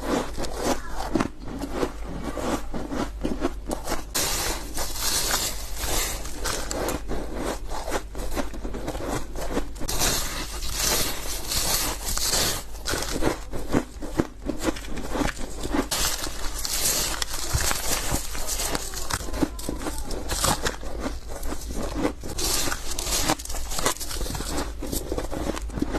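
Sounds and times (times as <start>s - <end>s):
ice being chewed: 0.0s - 25.9s.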